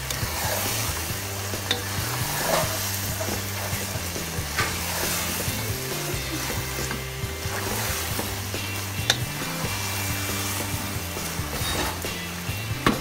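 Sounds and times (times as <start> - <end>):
meat sizzling in a pan: 0.0 - 13.0
wooden spatula scraping a pan: 0.0 - 13.0.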